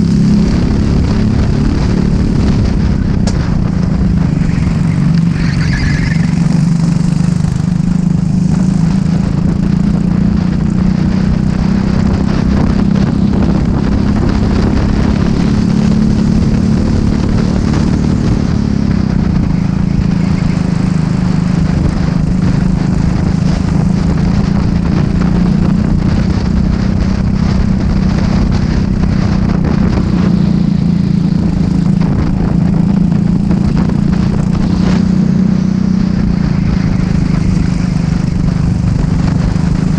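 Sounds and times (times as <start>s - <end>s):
loud rushing noise: 0.0s - 39.9s
racing kart engine: 0.0s - 39.9s.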